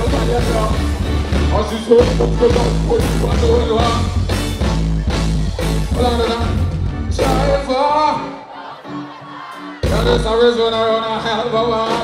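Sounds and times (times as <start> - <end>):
person singing: 0.0 - 4.4, 5.1 - 12.0
live band music: 0.0 - 12.0.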